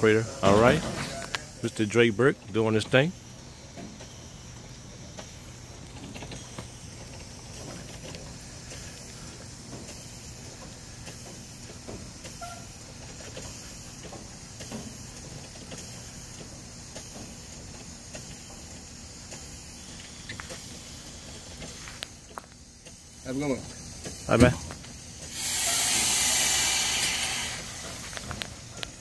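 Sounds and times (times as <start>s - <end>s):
standing train hum and hiss: 0.0s - 29.0s.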